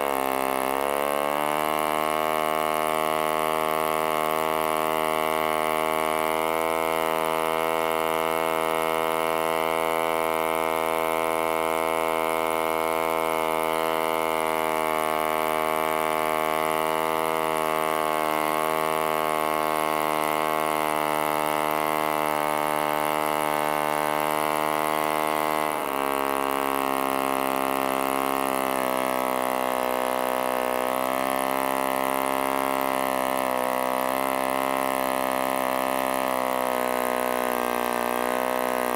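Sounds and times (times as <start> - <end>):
model engine buzzing: 0.0 - 38.9.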